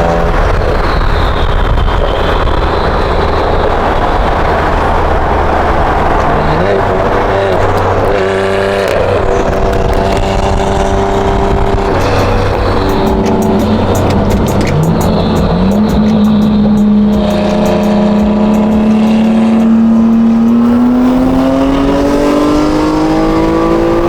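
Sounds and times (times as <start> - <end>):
car engine running hard: 0.0 - 24.0
road and wind noise: 0.0 - 24.0.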